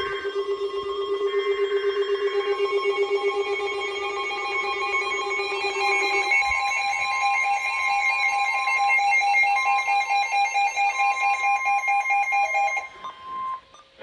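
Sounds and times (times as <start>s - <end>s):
two-tone alert signal: 0.0s - 14.0s.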